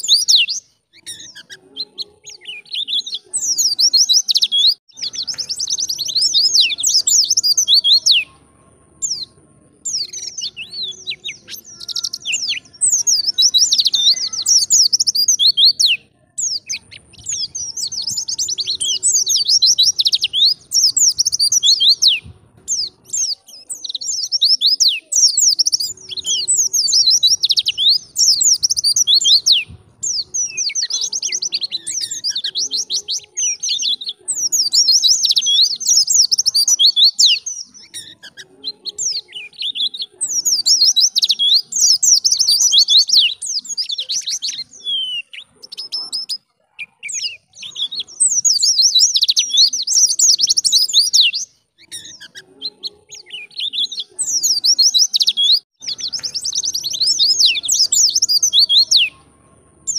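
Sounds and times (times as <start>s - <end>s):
bird twittering chirps: 0.0s - 8.4s, 9.0s - 59.9s.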